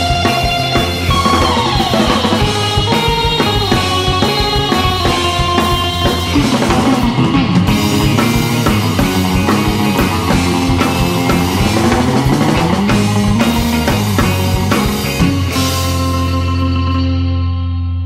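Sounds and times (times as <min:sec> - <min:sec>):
rock music with drums and guitar: 0:00.0 - 0:18.0.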